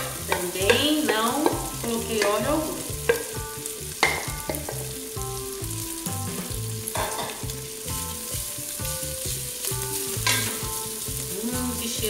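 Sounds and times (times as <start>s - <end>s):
background music: 0.0s - 12.0s
meat sizzling in a pot: 0.0s - 12.0s.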